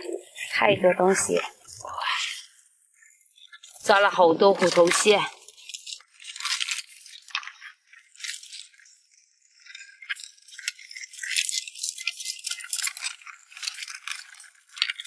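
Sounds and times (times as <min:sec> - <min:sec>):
crabs clicking and rattling: 0:00.0 - 0:15.0.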